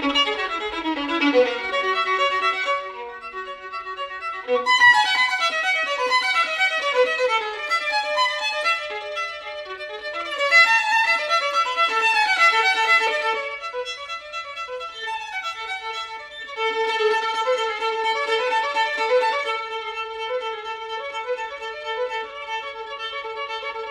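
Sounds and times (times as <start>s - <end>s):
violin playing lively melody: 0.0s - 23.9s.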